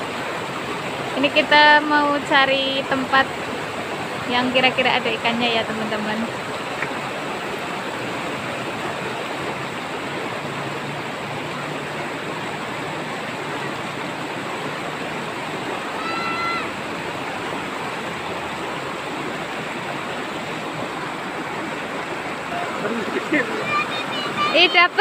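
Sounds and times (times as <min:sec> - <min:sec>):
river rushing over stones: 0:00.0 - 0:25.0.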